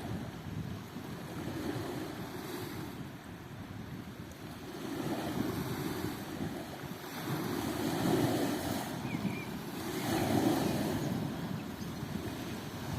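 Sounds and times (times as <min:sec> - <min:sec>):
sea waves washing on beach: 0:00.0 - 0:12.9
wind rumbling on microphone: 0:00.0 - 0:12.9.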